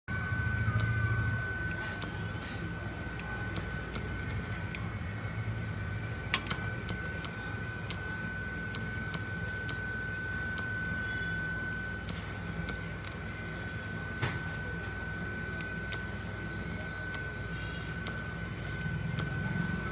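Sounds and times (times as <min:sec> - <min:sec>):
low hum: 0:00.0 - 0:19.9
high whine of welding equipment: 0:00.1 - 0:19.9.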